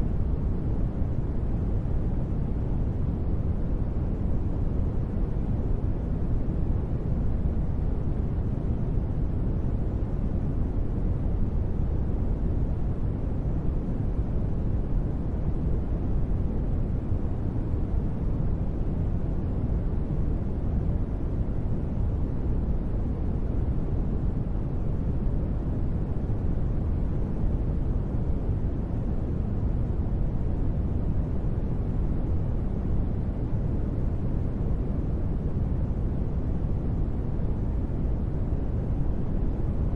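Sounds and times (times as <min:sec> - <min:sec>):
deep rumbly steady noise: 0:00.0 - 0:39.9.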